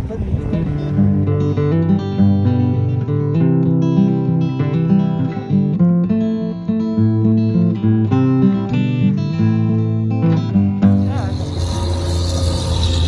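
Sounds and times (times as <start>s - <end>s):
acoustic guitar plucked and strummed: 0.8s - 13.0s.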